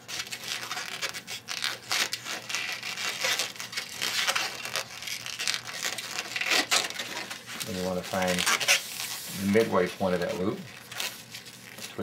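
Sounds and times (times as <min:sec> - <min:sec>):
balloon rubbing and scratching: 0:00.0 - 0:12.0.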